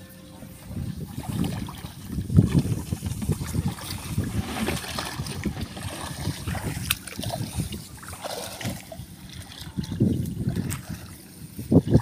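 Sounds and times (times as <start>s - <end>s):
footsteps sloshing through water and mud: 0.0s - 12.0s.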